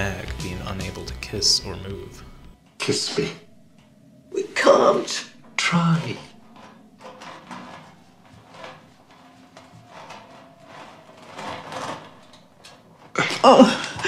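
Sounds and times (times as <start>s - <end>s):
faint metal scrapes and creaks: 0.0s - 14.0s.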